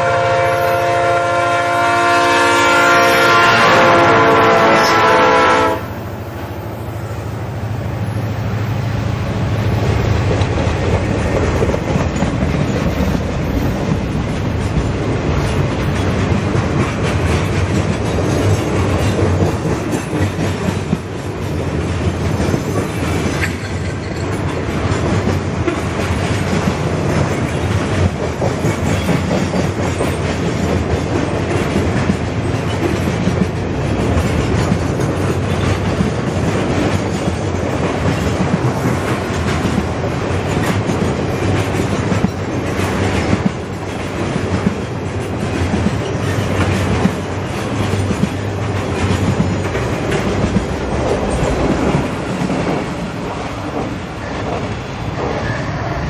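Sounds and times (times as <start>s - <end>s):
steel wheels rumbling on track: 0.0s - 56.0s.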